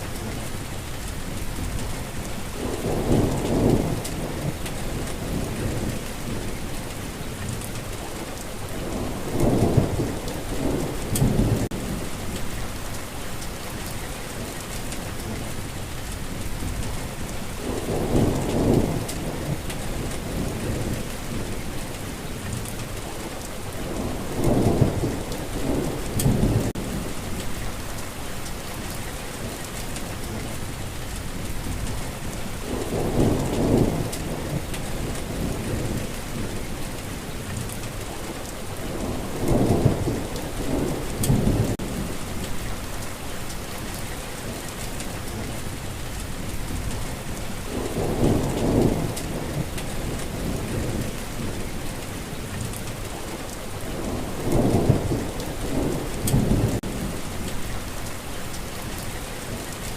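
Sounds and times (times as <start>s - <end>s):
steady rainfall: 0.0s - 59.9s
thunder rumbling: 0.1s - 7.6s, 8.7s - 13.9s, 14.7s - 44.0s, 44.8s - 59.0s.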